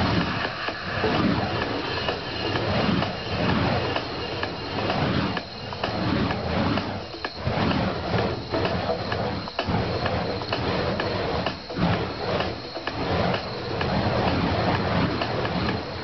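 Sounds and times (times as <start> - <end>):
fire prop whooshing: 0.0 - 16.0.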